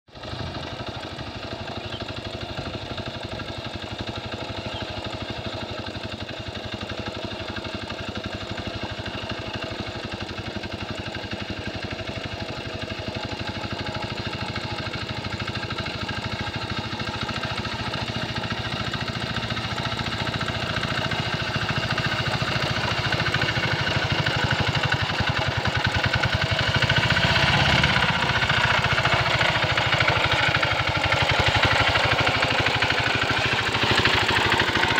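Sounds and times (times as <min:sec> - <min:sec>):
hand tractor engine chugging: 0:00.1 - 0:34.9.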